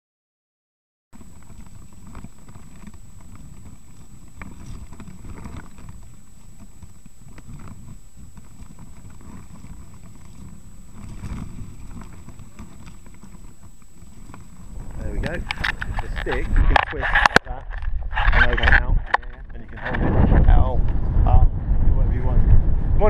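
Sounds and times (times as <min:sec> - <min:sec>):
faint high-pitched whine: 0:01.2 - 0:23.0
wind rumble on microphone: 0:01.2 - 0:23.0.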